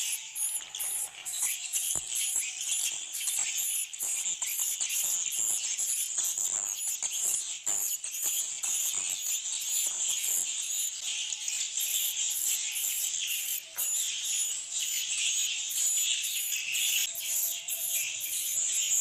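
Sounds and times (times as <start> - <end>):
swiftlets twittering: 0.0 - 19.0.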